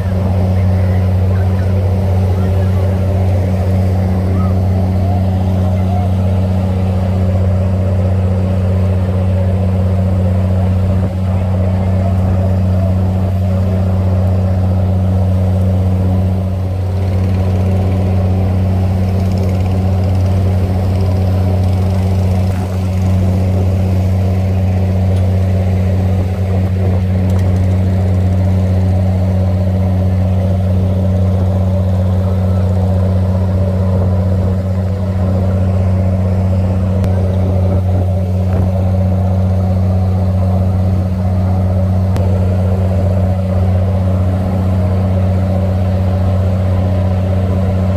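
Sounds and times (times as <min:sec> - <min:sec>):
boat engine droning: 0:00.0 - 0:47.9.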